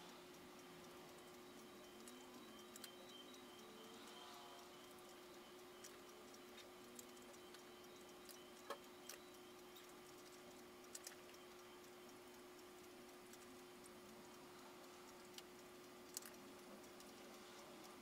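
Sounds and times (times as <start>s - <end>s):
faint irregular clicks: 0.0s - 18.0s
faint steady hum: 0.0s - 18.0s.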